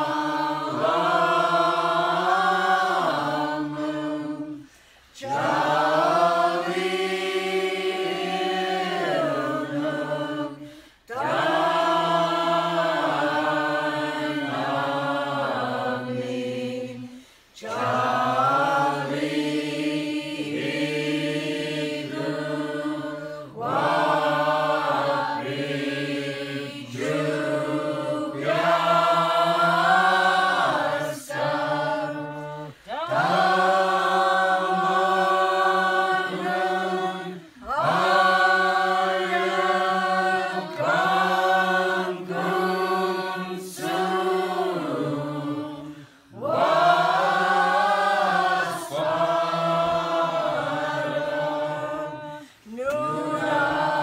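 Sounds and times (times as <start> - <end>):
crowd singing a carol: 0.0 - 54.0.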